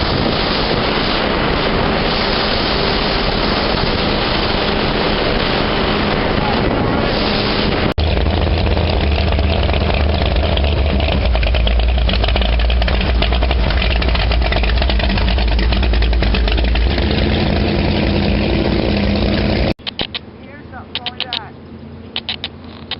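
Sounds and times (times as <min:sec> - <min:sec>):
motorboat engine running: 0:00.0 - 0:22.9.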